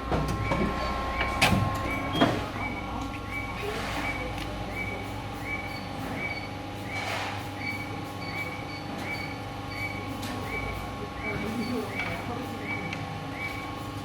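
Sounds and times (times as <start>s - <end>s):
paper guillotine mechanical hum: 0.0s - 14.0s.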